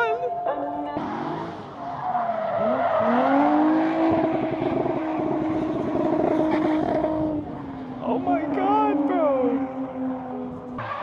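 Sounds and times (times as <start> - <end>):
race car engine accelerating: 0.6 - 11.0.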